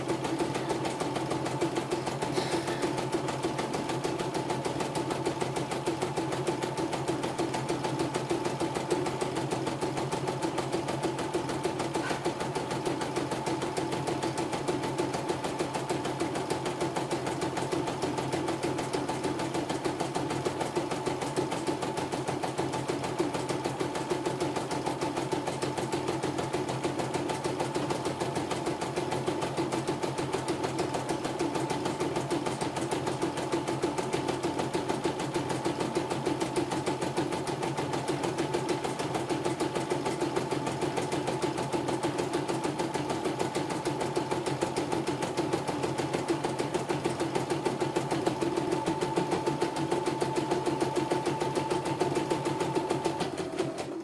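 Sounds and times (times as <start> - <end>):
embroidery machine stitching: 0.0 - 54.0.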